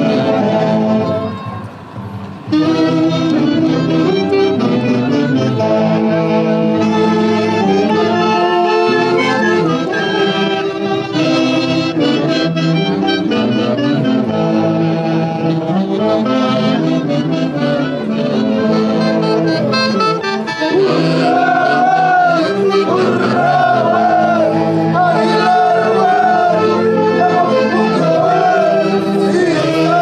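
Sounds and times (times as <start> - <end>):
saxophone-led orchestra playing: 0.0 - 30.0.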